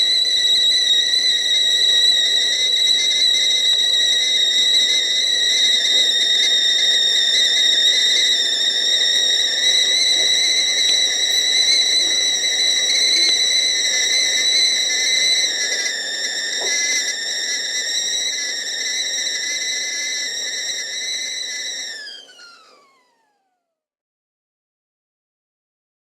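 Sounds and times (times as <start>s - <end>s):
water boiling: 0.0s - 22.2s
kettle whistling: 0.0s - 23.6s.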